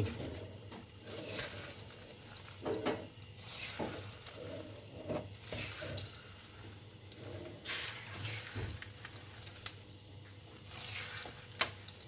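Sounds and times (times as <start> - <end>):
peanuts rattling in metal pan: 0.0 - 12.0
wooden spatula stirring: 0.0 - 12.0.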